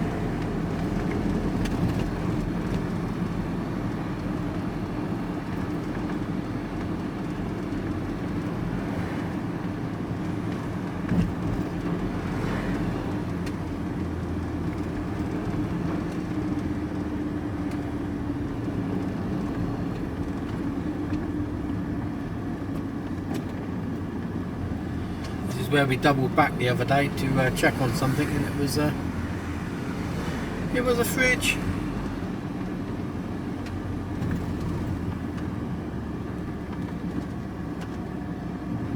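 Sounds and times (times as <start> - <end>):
engine and road noise in cabin: 0.0 - 38.9.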